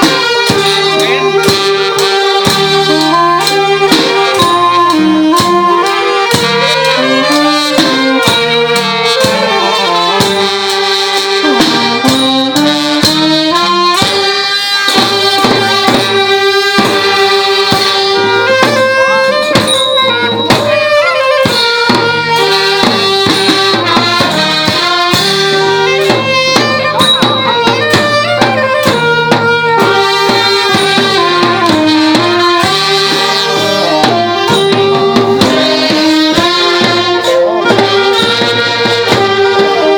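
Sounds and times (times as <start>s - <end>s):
drum and cymbal strokes: 0.0s - 39.9s
horns and reeds melody: 0.0s - 39.9s.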